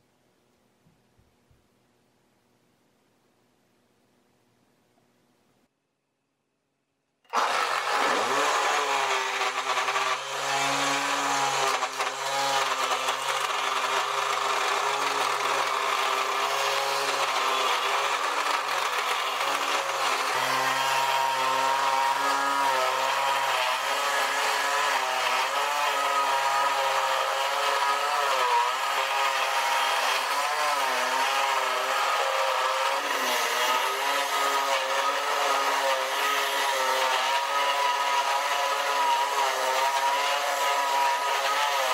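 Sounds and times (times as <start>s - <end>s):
angle grinder motor running: 7.3s - 41.9s
chisel scraping spinning wood: 7.3s - 41.9s.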